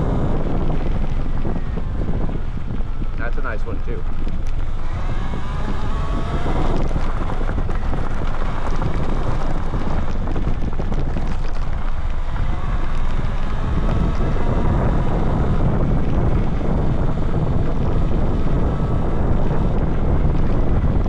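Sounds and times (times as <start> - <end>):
low rumble from riding on dirt: 0.0 - 21.0
wind buffeting microphone: 0.0 - 21.0.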